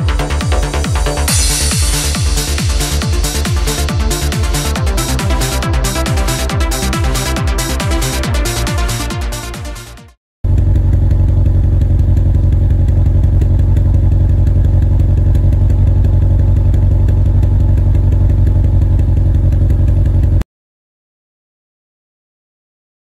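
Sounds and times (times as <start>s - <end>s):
engine idling roughly: 0.0s - 9.2s, 10.4s - 20.4s.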